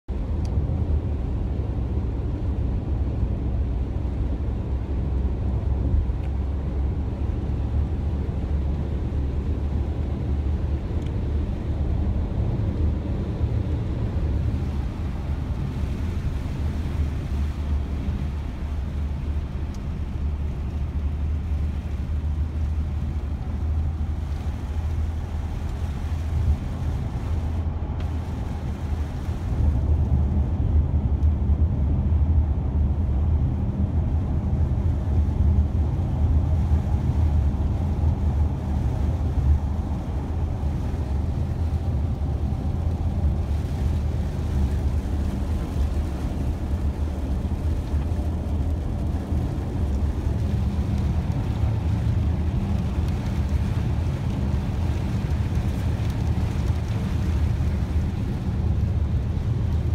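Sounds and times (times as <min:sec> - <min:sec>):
tyres on wet road: 0:00.1 - 0:59.9
car engine: 0:03.9 - 0:59.9.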